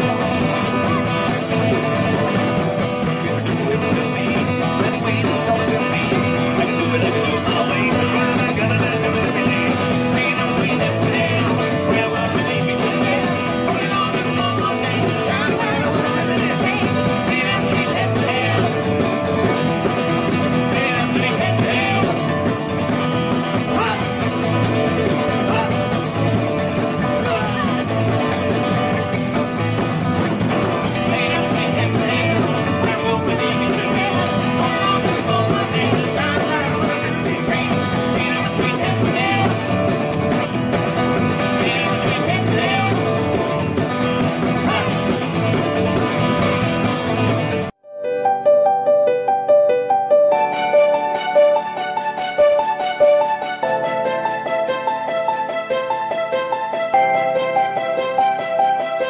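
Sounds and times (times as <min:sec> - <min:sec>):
country rock band music: 0:00.0 - 0:47.7, 0:50.3 - 0:59.0.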